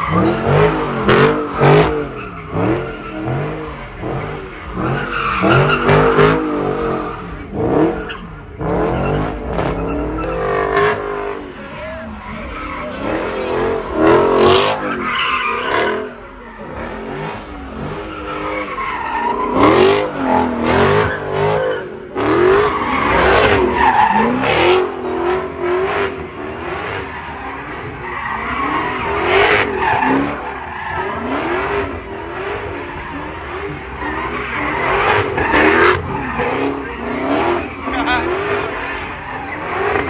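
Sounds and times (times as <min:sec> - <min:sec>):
car engines revving: 0:00.0 - 0:40.0
tires squealing on pavement: 0:00.0 - 0:40.0.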